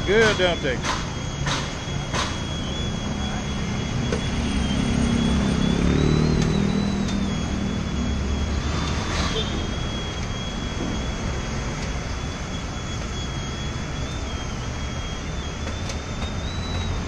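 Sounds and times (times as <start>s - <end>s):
thin high-pitched whine: 0.0s - 17.0s
vehicle engine hum passing: 0.0s - 17.0s.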